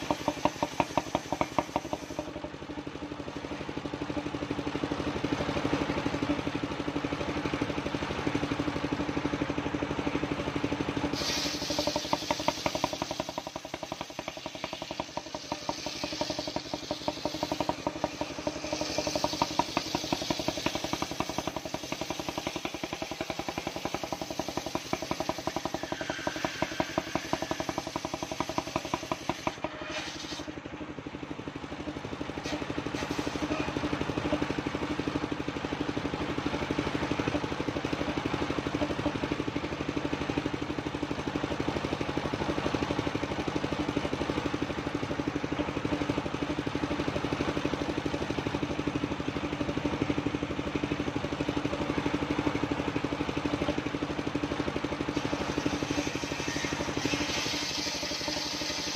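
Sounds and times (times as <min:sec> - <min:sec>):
sawmill engine pulsing: 0:00.0 - 0:58.9.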